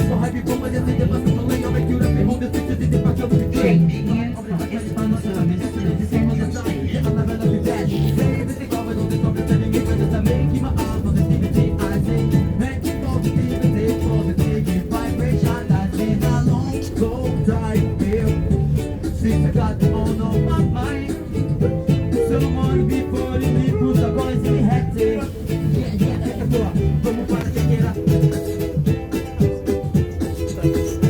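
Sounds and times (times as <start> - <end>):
person singing: 0.0 - 31.0
steady reggae beat: 0.0 - 31.0
strummed guitar: 0.0 - 31.0.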